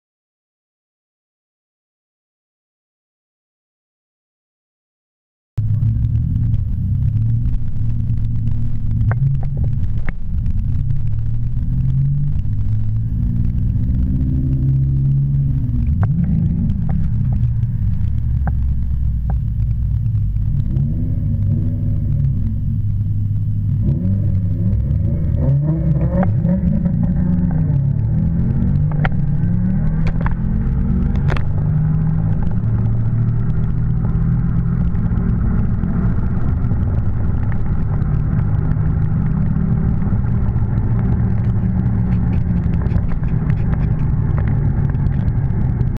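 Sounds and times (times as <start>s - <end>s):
car engine revving at full throttle: 5.6s - 46.0s
road rumble: 5.6s - 46.0s.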